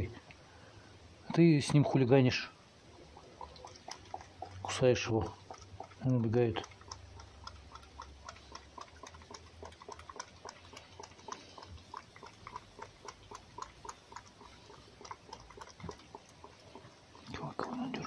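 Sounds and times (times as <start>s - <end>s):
fox lapping and chewing: 0.0s - 18.0s.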